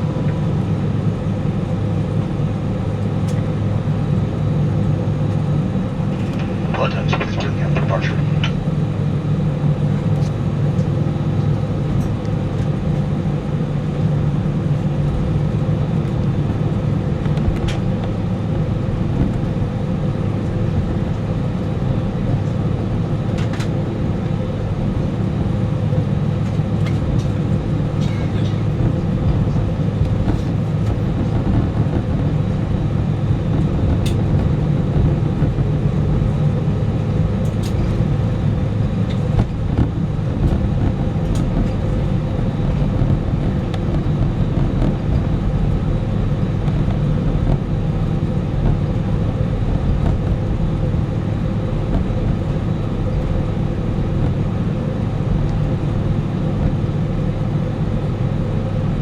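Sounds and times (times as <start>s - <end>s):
airplane cabin engine hum: 0.0s - 59.0s.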